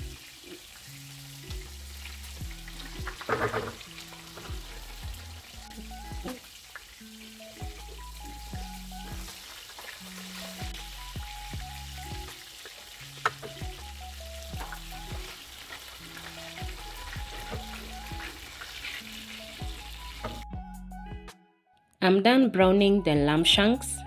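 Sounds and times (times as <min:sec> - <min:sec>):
meat sizzling in hot oil: 0:00.0 - 0:20.4.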